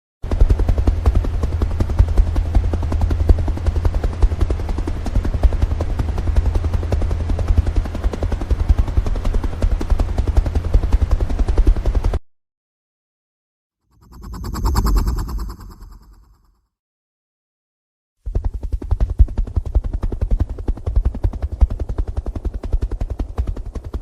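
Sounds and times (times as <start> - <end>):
helicopter rotor chop: 0.2 - 12.2, 13.9 - 16.6, 18.2 - 24.0.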